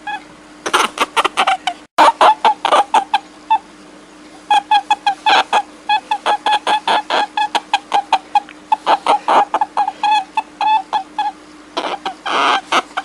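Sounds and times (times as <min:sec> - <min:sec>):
animal squeaks and clucks: 0:00.0 - 0:03.7, 0:04.3 - 0:13.0
faint steady hum: 0:00.0 - 0:13.0.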